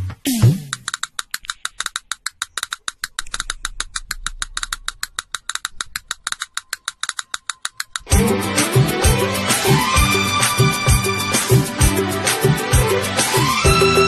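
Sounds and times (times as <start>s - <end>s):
rapid percussive clicks: 0.3s - 13.4s.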